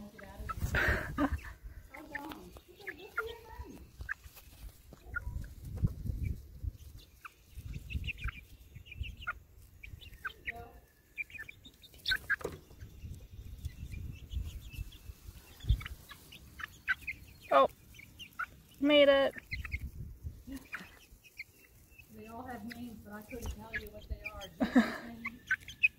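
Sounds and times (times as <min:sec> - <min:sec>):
chicks peeping and chirping: 0:00.0 - 0:25.9.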